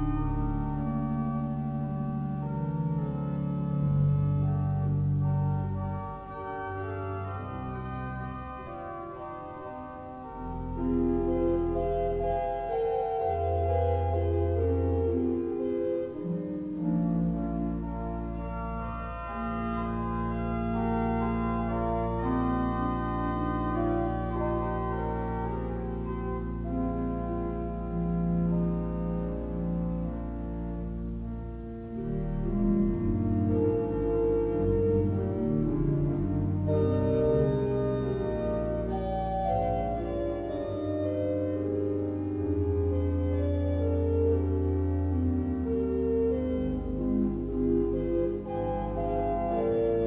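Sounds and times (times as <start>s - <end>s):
deep organ pedal notes: 0.0s - 50.0s
pipe organ chords: 0.0s - 50.0s.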